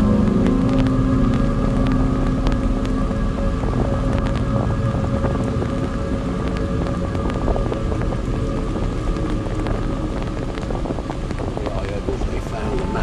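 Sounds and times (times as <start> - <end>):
heavy rain falling: 0.0 - 13.0
raindrops ticking close by: 0.0 - 13.0.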